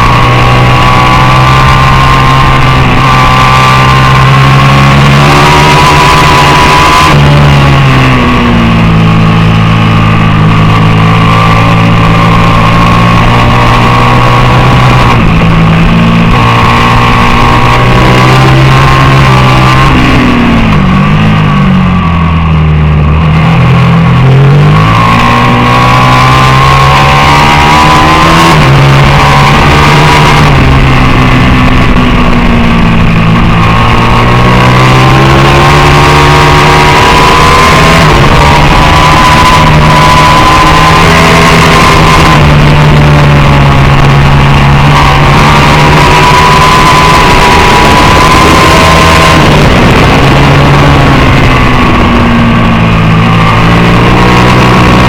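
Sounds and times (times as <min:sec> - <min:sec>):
motorcycle engine revving high: 0:00.0 - 0:55.0.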